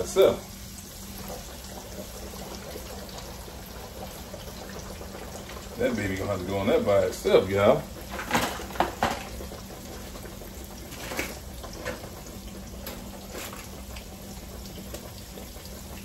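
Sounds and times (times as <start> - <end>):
oil bubbling and sizzling: 0.0 - 16.0.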